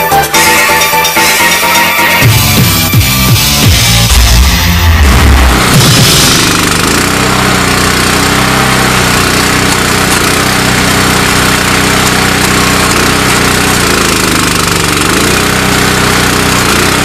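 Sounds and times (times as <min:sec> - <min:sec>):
digging machine engine running: 0:00.0 - 0:17.0.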